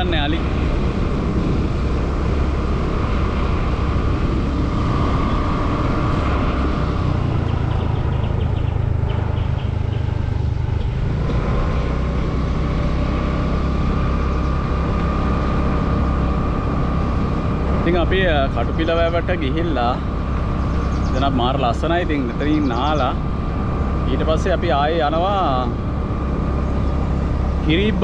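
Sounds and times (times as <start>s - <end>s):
motorcycle engine hum: 0.0s - 28.0s
wind and road noise: 0.0s - 28.0s.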